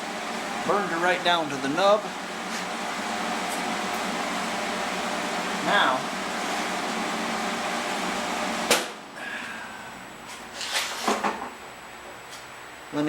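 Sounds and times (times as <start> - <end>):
fan whirring: 0.0 - 13.0.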